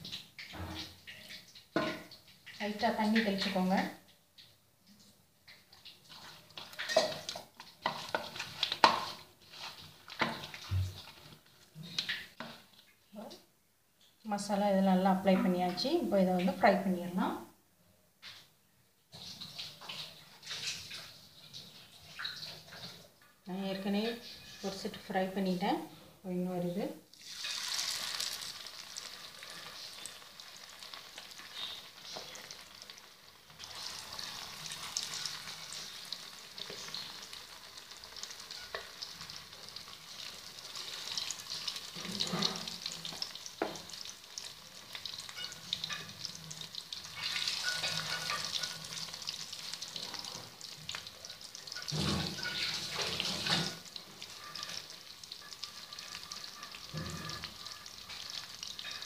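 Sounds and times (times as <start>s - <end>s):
meat deep-frying in oil: 0.0s - 13.3s, 19.1s - 25.7s, 27.1s - 59.0s.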